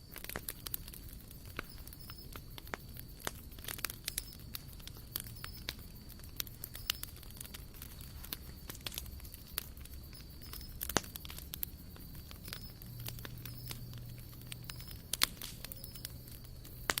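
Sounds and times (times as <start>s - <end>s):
wood campfire crackling and popping: 0.0s - 17.0s.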